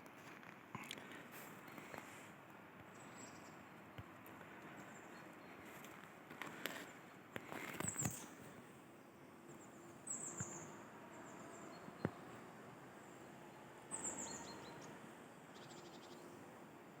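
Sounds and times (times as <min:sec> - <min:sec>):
faint outdoor hush: 0:00.0 - 0:17.0
songbird chirping: 0:02.8 - 0:17.0.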